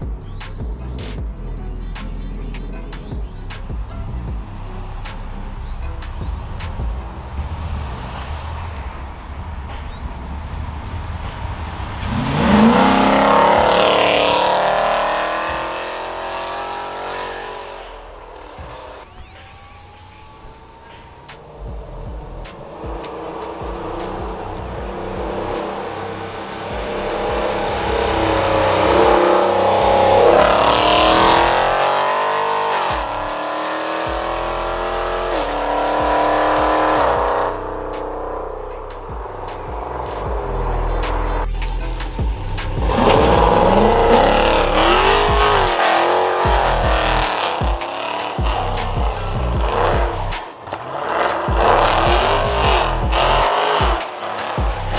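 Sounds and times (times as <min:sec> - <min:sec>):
car engine accelerating past: 0:00.0 - 0:54.9.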